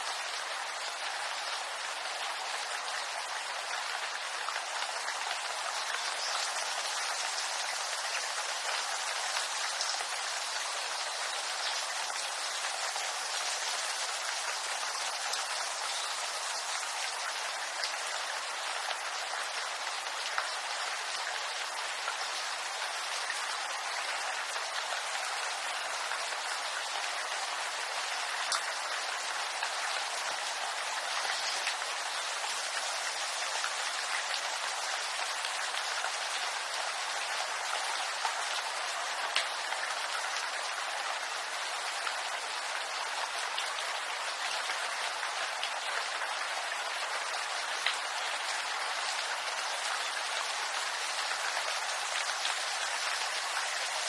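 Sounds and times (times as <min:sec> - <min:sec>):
rain on bamboo: 0:00.0 - 0:54.0.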